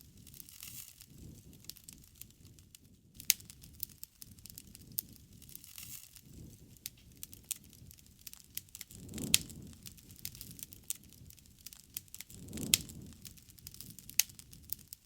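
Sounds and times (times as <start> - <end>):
campfire pops and snaps: 0.0 - 15.0
rush of burning wood: 0.0 - 15.0.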